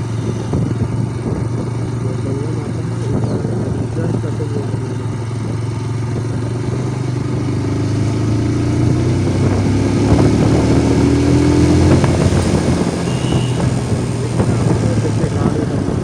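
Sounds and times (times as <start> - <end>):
motorcycle engine at road speed: 0.0 - 16.0.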